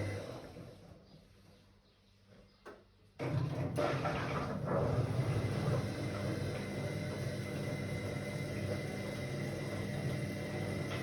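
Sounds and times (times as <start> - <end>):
washing machine running: 0.0 - 1.1, 3.2 - 11.0.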